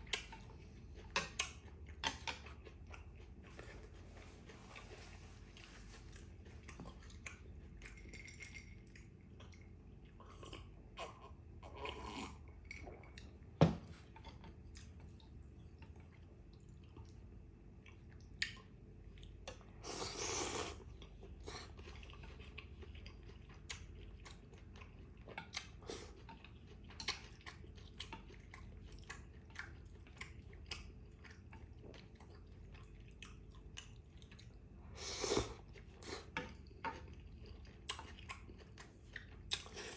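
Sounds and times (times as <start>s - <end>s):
close chewing: 0.0s - 12.4s, 14.1s - 39.9s.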